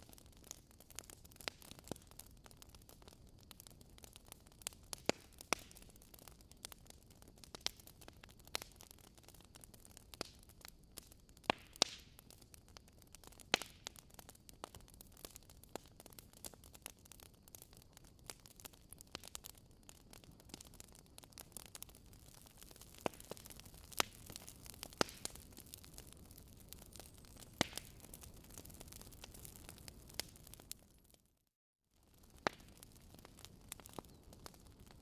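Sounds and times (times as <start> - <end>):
wood fire crackling: 0.0 - 31.3, 32.0 - 35.0.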